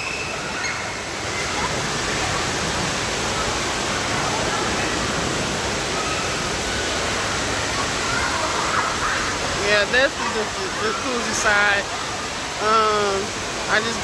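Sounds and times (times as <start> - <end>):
rushing splashing water: 0.0 - 14.0.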